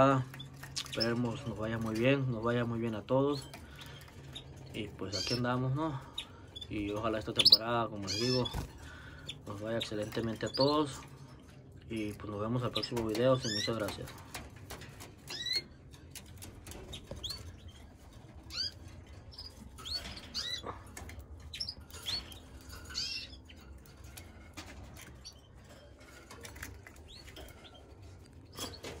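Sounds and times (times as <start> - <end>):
canaries chirping: 0.0 - 29.0.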